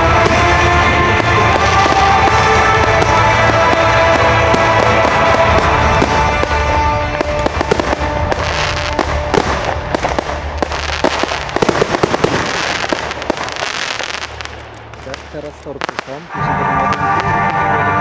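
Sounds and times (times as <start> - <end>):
fireworks bangs and crackles: 0.0 - 18.0
music: 0.0 - 18.0.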